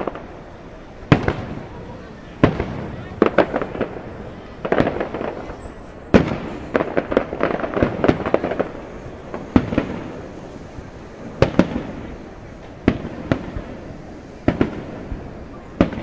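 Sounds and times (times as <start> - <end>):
fireworks crackling pops: 0.0 - 16.0
fireworks sharp bangs: 0.0 - 16.0.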